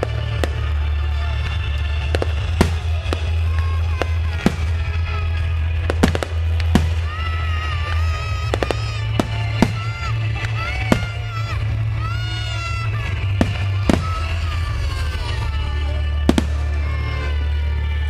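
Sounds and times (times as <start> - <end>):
fireworks bursting: 0.0 - 18.0
music with deep bass: 0.0 - 18.0.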